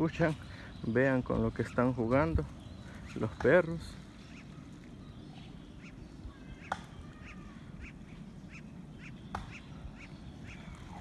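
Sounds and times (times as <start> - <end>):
birds calling high notes: 0.0 - 11.0.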